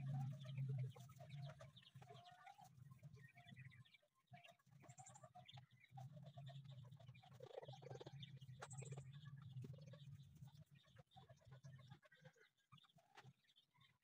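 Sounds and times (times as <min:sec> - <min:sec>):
small bird calls: 0:00.0 - 0:14.0.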